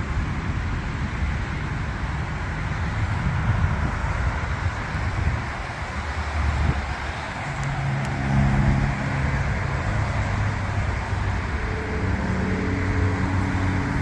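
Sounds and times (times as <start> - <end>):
low engine hum: 0.0 - 14.0
road noise rush: 0.0 - 14.0.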